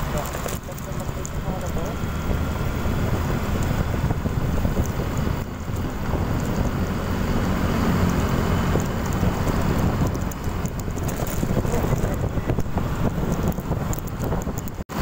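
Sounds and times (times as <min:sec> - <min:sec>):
low rumble of road noise: 0:00.0 - 0:15.0
wind buffeting microphone: 0:00.0 - 0:15.0.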